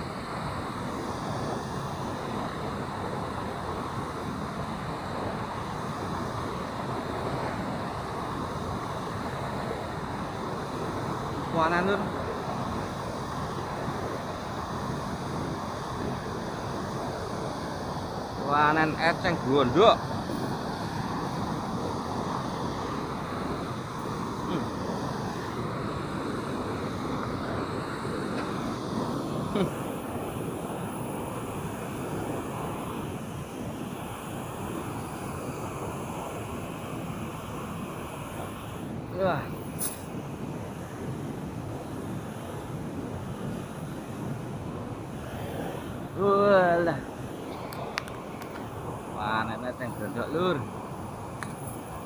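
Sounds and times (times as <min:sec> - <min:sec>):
turbulent water rushing: 0:00.0 - 0:52.0.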